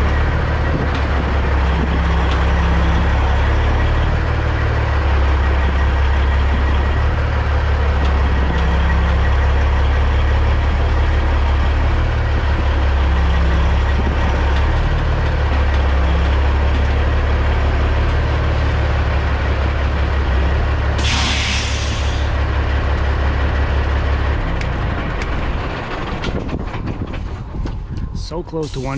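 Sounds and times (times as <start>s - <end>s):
diesel truck engine idling: 0.0s - 28.9s.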